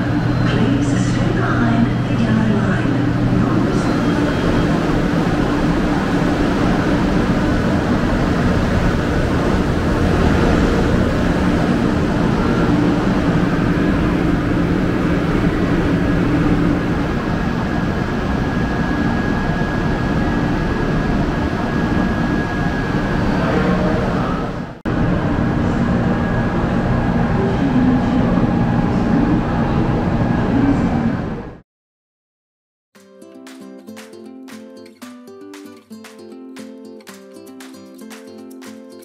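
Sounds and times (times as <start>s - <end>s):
faint high whine: 0.0s - 31.4s
trains humming and rumbling: 0.0s - 31.6s.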